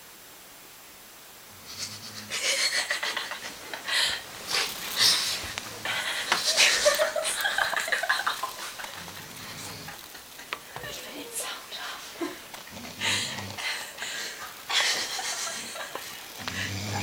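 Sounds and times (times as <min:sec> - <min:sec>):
stifled giggling: 0:01.7 - 0:17.0.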